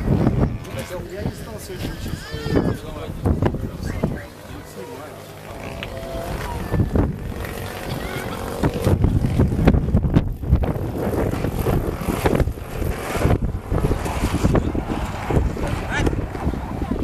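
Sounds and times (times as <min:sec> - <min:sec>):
model plane engine running: 0:00.0 - 0:17.0
wind buffeting microphone: 0:00.0 - 0:17.0.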